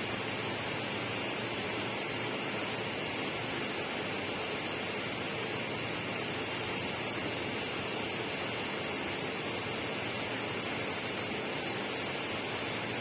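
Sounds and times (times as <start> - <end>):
steady rushing noise with hiss: 0.0 - 13.0.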